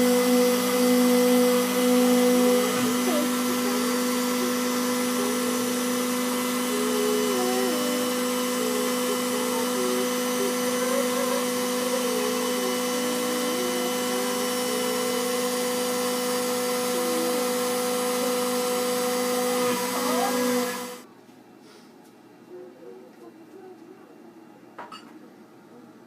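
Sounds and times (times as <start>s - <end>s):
cnc machine whirring hum: 0.0s - 21.1s.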